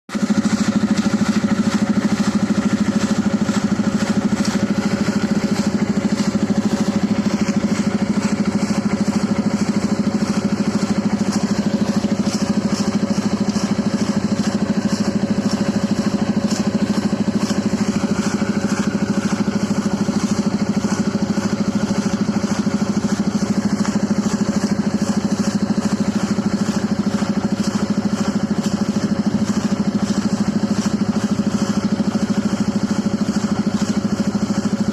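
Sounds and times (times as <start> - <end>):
air compressor running: 0.1 - 34.9.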